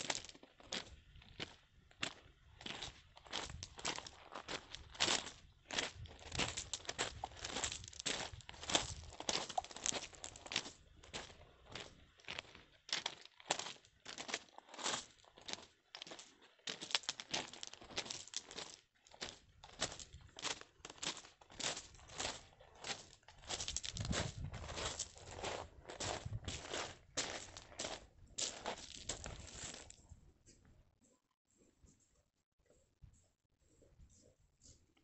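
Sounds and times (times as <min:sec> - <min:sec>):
footsteps on gravel: 0:00.0 - 0:30.0.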